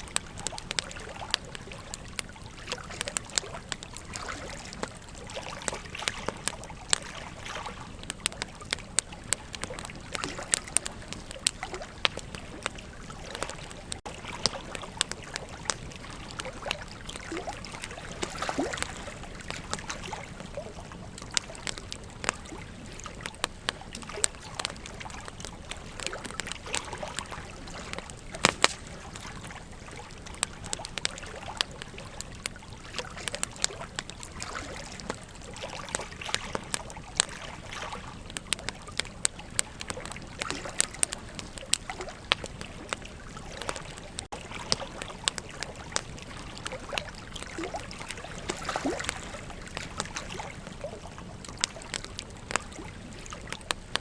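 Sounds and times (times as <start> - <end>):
flowing river: 0.0 - 54.0
wood fire crackling: 0.0 - 54.0.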